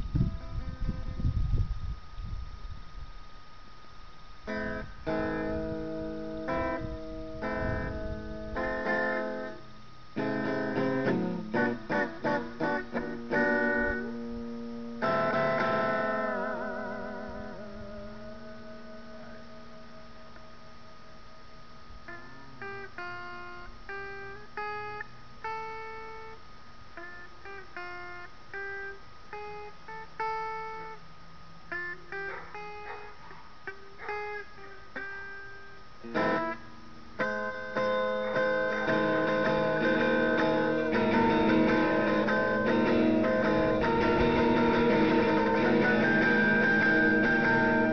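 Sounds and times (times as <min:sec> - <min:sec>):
clean electric guitar: 0:04.4 - 0:47.9.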